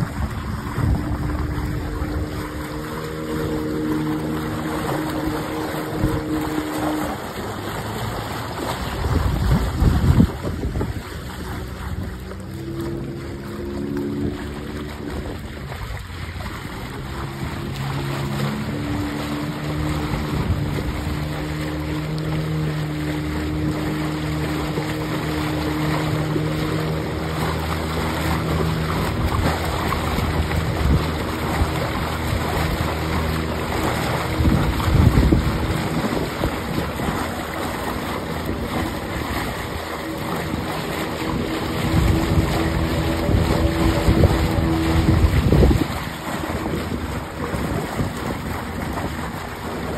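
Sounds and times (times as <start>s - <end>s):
outboard engine running: 0.0s - 49.9s
water washing past hull: 0.0s - 49.9s
wind buffeting microphone: 0.0s - 49.9s.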